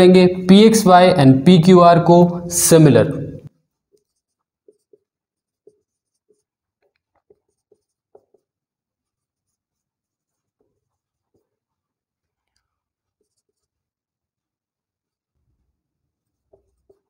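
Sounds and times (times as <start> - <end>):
marker writing on whiteboard: 2.2 - 17.0.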